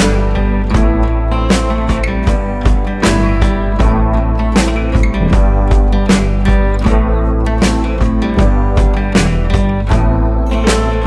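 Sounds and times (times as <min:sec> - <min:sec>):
music with strummed guitar: 0:00.0 - 0:11.0.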